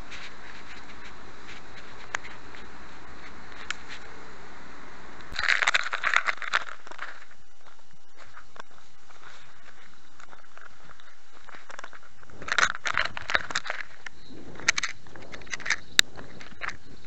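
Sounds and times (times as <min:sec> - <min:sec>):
camera rubbing against fabric: 0:00.0 - 0:04.2, 0:05.3 - 0:17.0
microphone hiss: 0:00.0 - 0:17.0.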